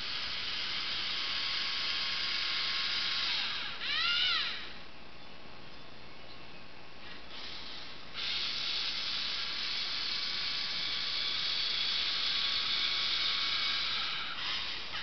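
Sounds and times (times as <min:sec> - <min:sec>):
robot servo motors whirring: 0:00.0 - 0:04.8, 0:07.0 - 0:15.0.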